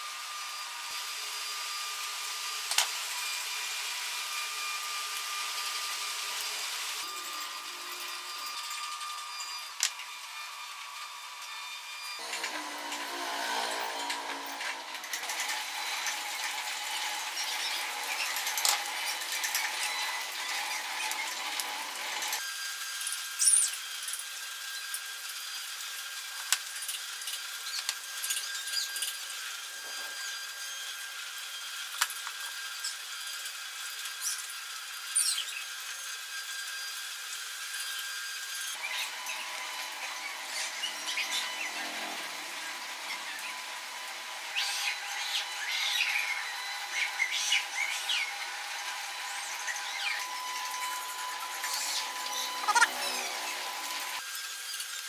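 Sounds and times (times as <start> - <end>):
tool hissing on wood: 0.0 - 55.0.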